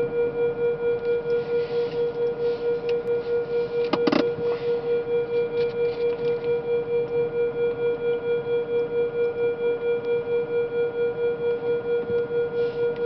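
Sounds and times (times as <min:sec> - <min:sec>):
pulsing electronic warning tone: 0:00.0 - 0:13.0.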